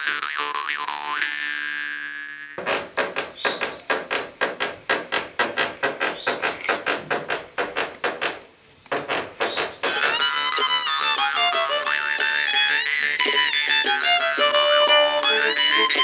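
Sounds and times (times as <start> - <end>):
rapid rhythmic knocking: 2.6 - 16.0.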